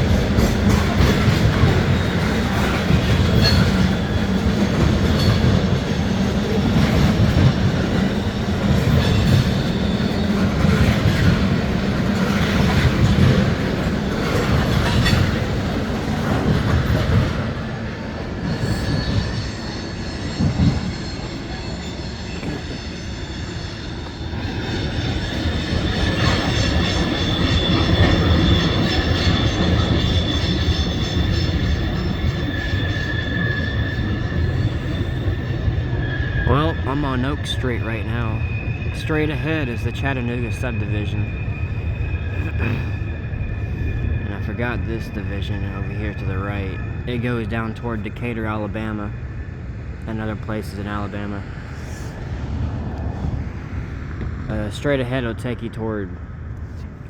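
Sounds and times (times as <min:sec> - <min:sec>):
high-pitched wheel squeal: 0:00.0 - 0:15.8, 0:16.7 - 0:52.5
freight train rumble: 0:00.0 - 0:57.0.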